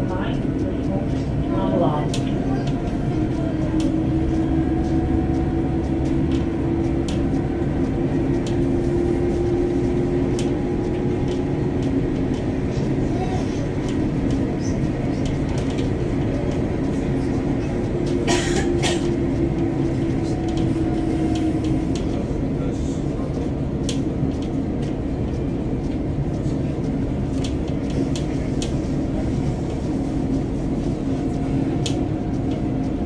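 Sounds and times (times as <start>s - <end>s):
constant low hum: 0.0s - 33.0s
train wheels rumbling on track: 0.0s - 33.0s.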